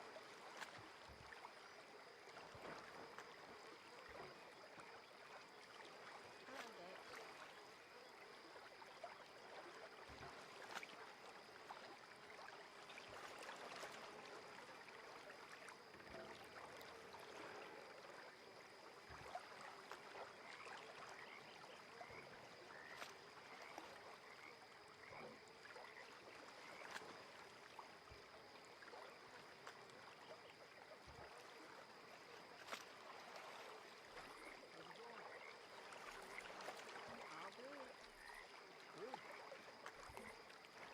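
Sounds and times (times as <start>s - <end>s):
water lapping at shore: 0.0s - 40.9s.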